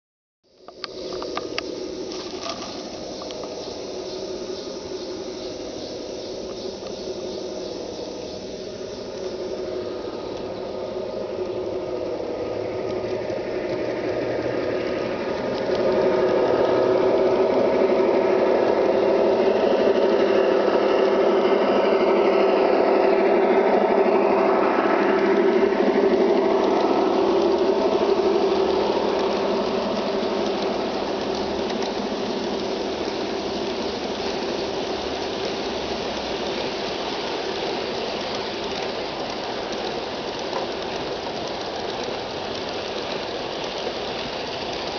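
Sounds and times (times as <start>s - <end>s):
model train motor hum: 0.6s - 44.9s
wheels rolling over track: 0.6s - 44.9s.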